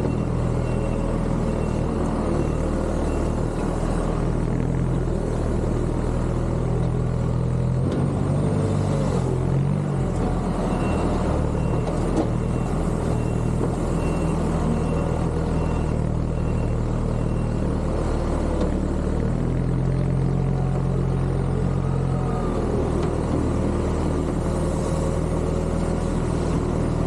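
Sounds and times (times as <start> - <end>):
diesel engine rumbling: 0.0 - 27.0.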